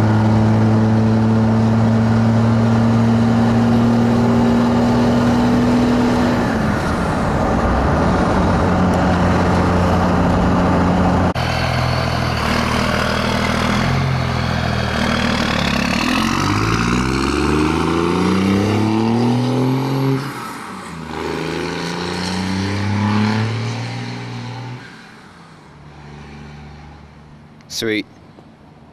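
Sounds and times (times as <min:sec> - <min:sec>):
diesel truck exhaust drone: 0:00.0 - 0:27.6.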